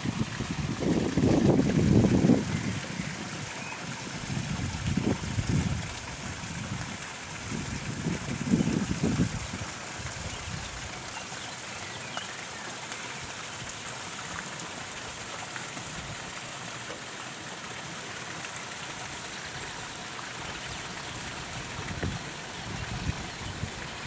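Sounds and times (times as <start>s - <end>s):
waterfall splashing into pond: 0.0s - 24.0s.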